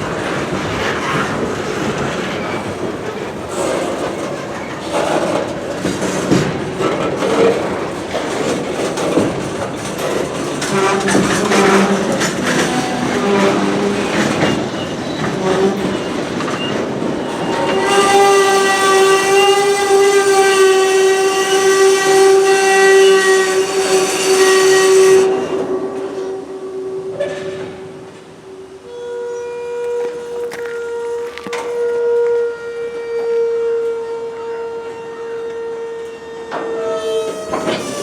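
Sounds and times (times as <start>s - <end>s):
rail cars clattering over track: 0.0s - 29.0s, 29.6s - 38.0s
freight train rolling past: 0.0s - 38.0s.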